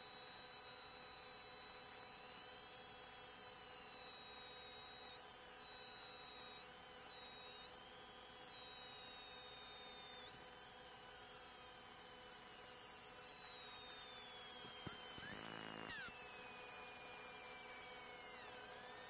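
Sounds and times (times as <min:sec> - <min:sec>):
high-pitched electrical whine: 0:00.0 - 0:19.0.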